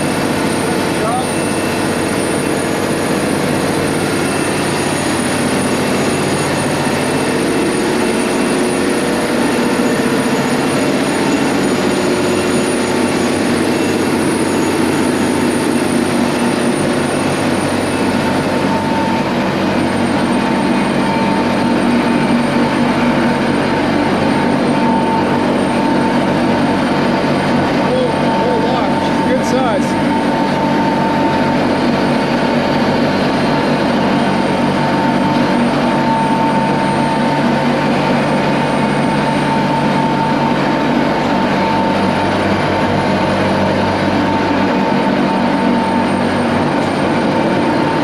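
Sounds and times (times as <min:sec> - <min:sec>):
engine room machinery din: 0:00.0 - 0:48.0
machinery whine: 0:00.0 - 0:48.0.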